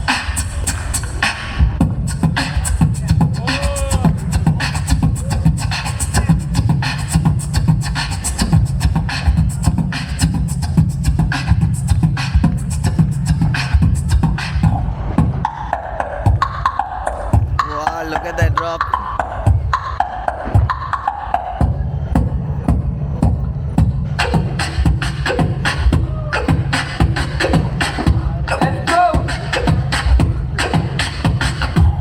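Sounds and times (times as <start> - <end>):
beatboxing: 0.0 - 32.0.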